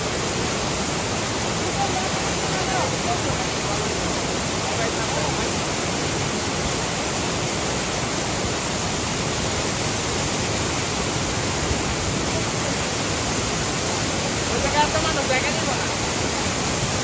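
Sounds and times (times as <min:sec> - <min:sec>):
waterfall rushing over boulders: 0:00.0 - 0:17.0.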